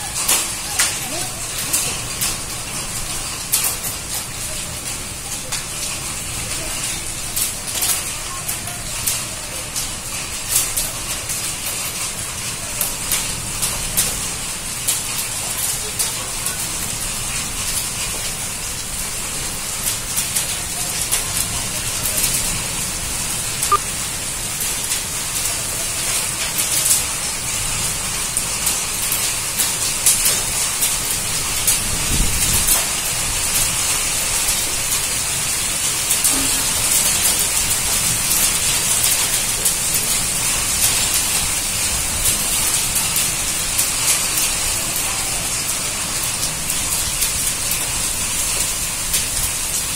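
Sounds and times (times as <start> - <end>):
hailstones ticking on hard surfaces: 0.0 - 49.9
heavy rain hissing: 0.0 - 49.9.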